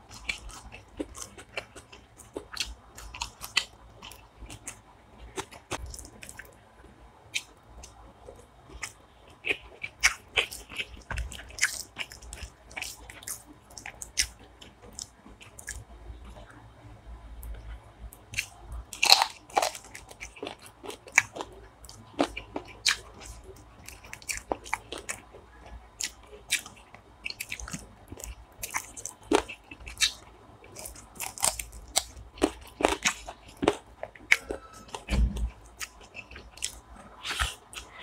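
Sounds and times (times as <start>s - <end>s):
man chewing and crunching food: 0.0s - 6.6s, 7.2s - 16.5s, 17.4s - 38.0s.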